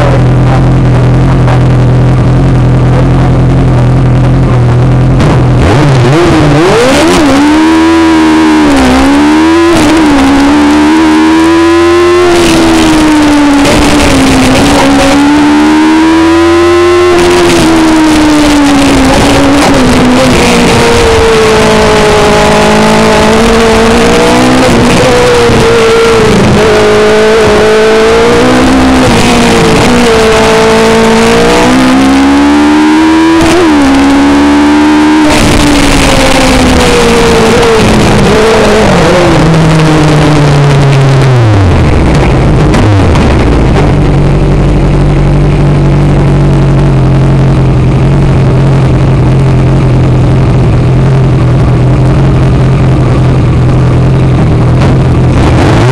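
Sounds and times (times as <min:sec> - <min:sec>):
racing car engine revving: 0:00.0 - 0:55.9.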